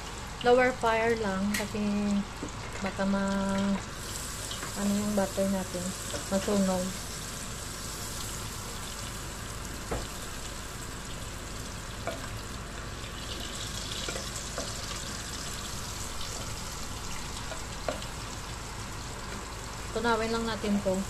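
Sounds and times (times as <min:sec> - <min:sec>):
butter sizzling in a pot: 0:00.0 - 0:21.0.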